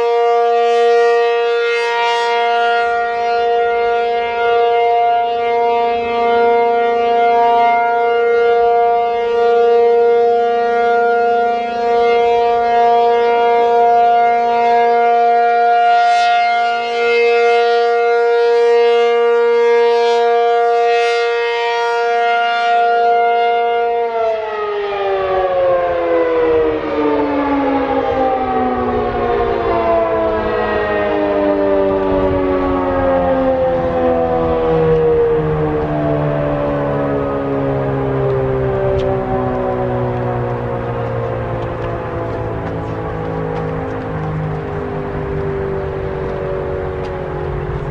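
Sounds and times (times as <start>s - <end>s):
siren winding down: 0.0s - 47.9s
warning siren steady tone: 0.0s - 47.9s.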